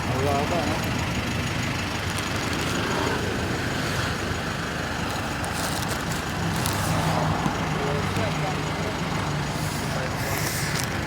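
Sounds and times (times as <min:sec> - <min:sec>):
road traffic: 0:00.0 - 0:11.0
vehicle engine humming: 0:00.0 - 0:11.0.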